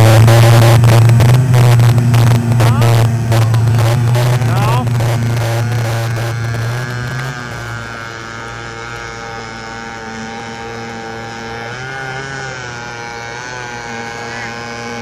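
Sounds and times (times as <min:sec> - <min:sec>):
two-stroke boat engine at speed: 0:00.0 - 0:15.0.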